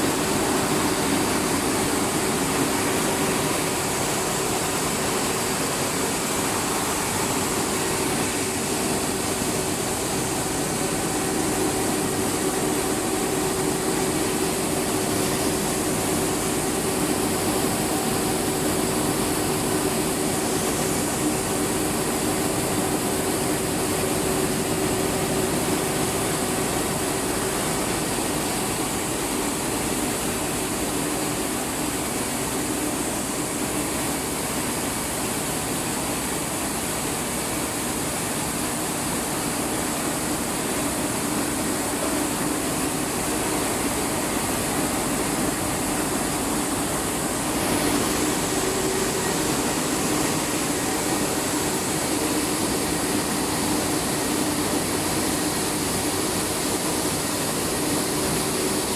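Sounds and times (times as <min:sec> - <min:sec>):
milling machinery running: 0:00.0 - 0:58.9.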